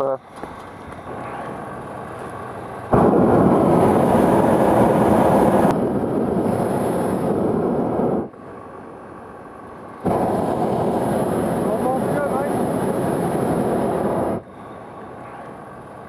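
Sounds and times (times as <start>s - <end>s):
propane burner roaring: 1.1s - 16.0s.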